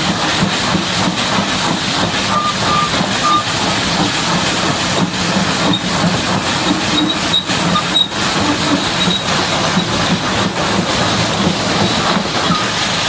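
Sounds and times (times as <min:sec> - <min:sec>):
loud rushing water: 0:00.0 - 0:13.0.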